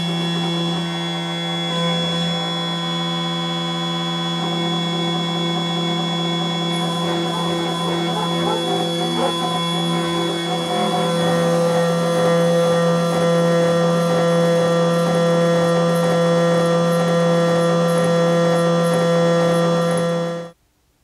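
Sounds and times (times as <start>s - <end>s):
end mill cutting metal: 0.0s - 19.2s
milling machine spindle whining: 0.0s - 20.5s
thin high whine: 0.0s - 20.6s.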